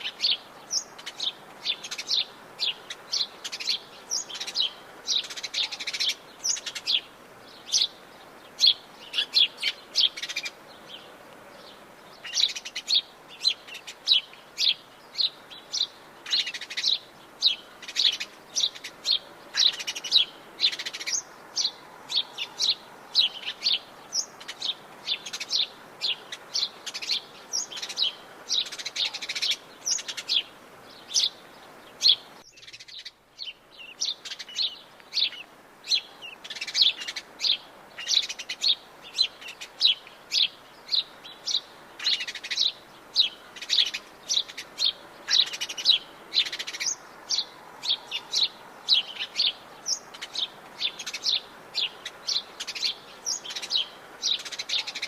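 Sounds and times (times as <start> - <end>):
birds chirping: 0.0 - 55.0
faint background hiss: 0.0 - 55.0.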